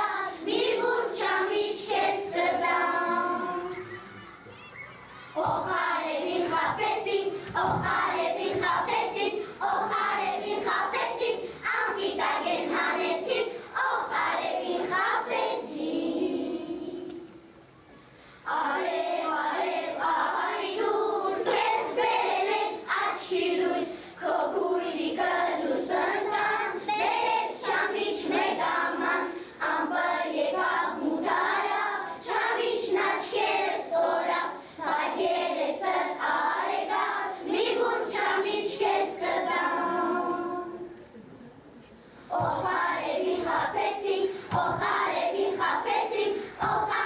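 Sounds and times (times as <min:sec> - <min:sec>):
children's choir singing: 0:00.0 - 0:17.5, 0:18.4 - 0:41.1, 0:42.2 - 0:47.0.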